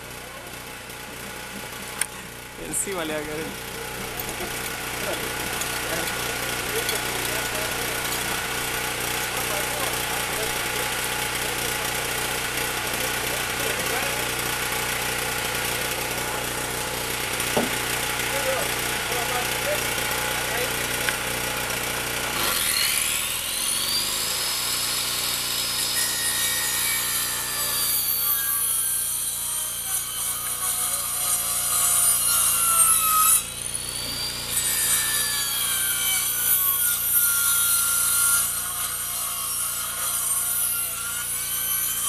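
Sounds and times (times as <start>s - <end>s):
circular saw cutting wood: 0.0s - 42.0s.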